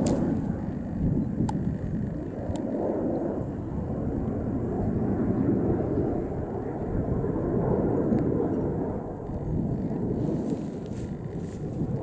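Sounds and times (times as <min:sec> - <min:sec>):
jet aircraft rumbling overhead: 0:00.0 - 0:12.0.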